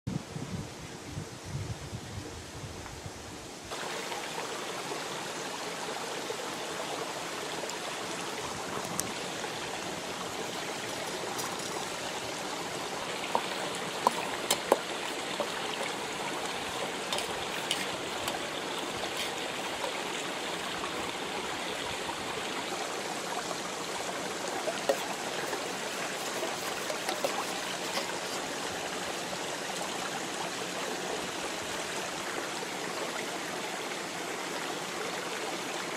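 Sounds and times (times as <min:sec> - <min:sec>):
stream running: 0:01.9 - 0:35.9.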